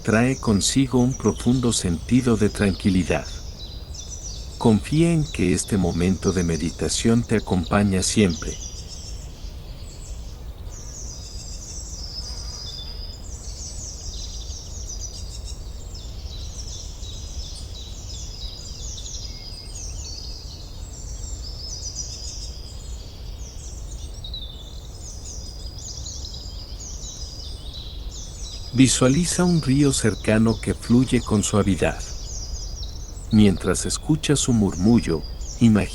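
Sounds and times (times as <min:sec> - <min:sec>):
small birds chirping and singing: 0:00.0 - 0:35.9.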